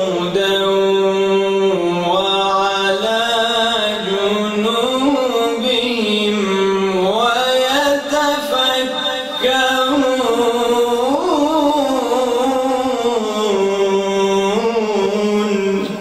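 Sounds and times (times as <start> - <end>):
man reciting melodically: 0.0 - 16.0.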